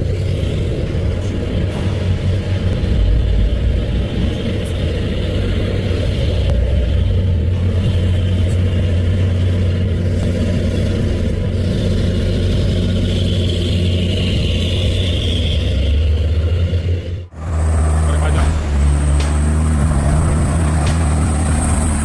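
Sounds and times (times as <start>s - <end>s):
heavy truck engine droning: 0.0s - 22.0s.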